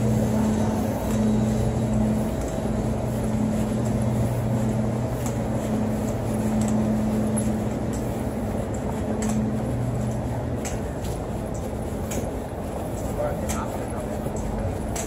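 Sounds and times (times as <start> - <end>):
city noise: 0.0 - 15.0
low mechanical hum: 0.0 - 15.0.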